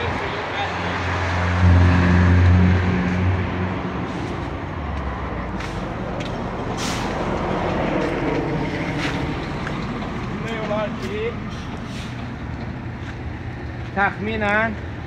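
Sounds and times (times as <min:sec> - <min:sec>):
heavy vehicle engine rumbling: 0:00.0 - 0:15.0
outdoor background noise: 0:00.0 - 0:15.0.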